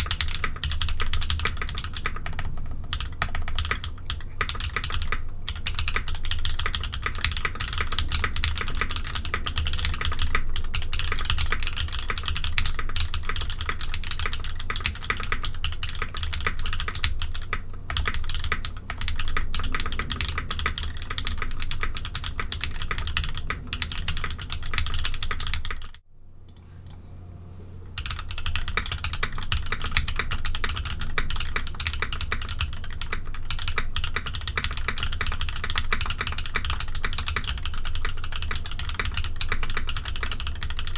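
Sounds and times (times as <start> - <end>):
mechanical keyboard typing: 0.0 - 26.0, 28.0 - 40.9.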